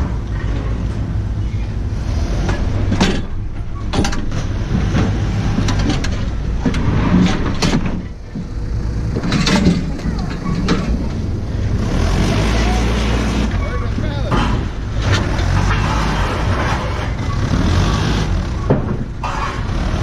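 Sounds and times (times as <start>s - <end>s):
knocks and rattles: 0.0s - 20.0s
vehicle engine rumbling: 0.0s - 20.0s.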